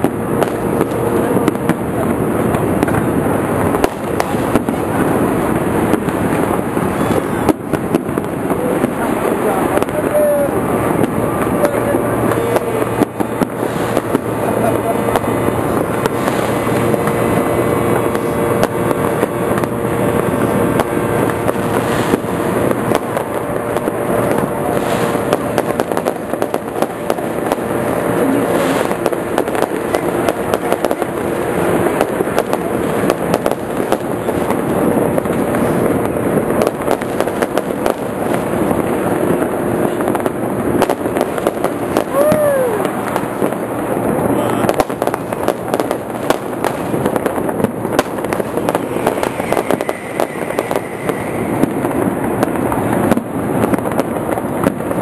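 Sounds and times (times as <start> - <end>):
aerial firework shells bursting: 0.0 - 55.0
firecrackers crackling and popping: 0.0 - 55.0.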